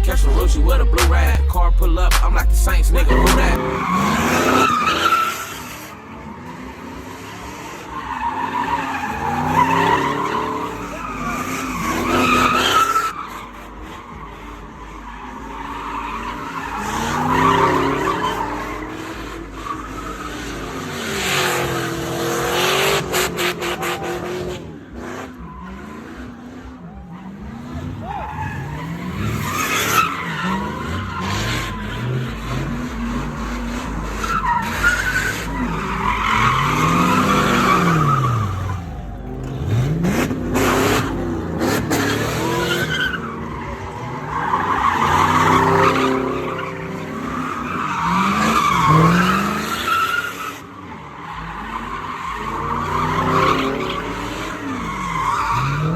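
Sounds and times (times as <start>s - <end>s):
car engine revving: 0.0s - 55.9s
tires squealing: 0.0s - 55.9s.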